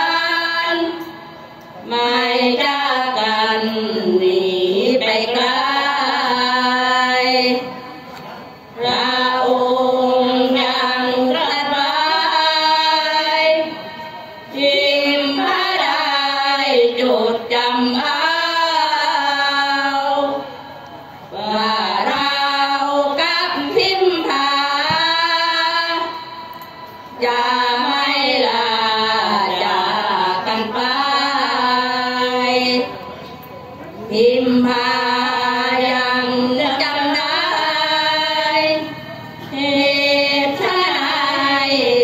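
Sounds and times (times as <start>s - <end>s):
women chanting devotional verse: 0.0s - 42.0s.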